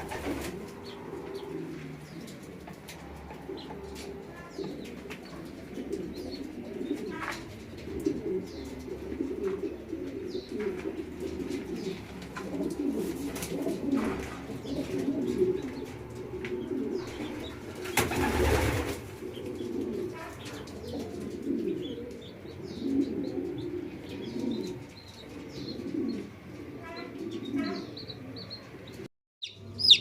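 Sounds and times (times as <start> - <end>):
chicks peeping: 0.0 - 12.8, 14.2 - 30.0
pigeons cooing: 0.0 - 30.0.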